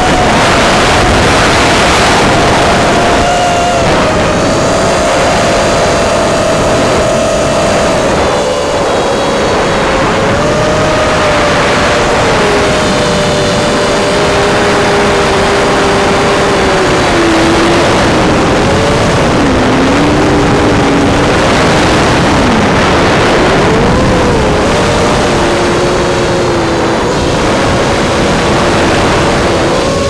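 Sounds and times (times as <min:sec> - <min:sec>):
drone motors whining: 0:00.0 - 0:30.0
wind rush: 0:00.0 - 0:30.0.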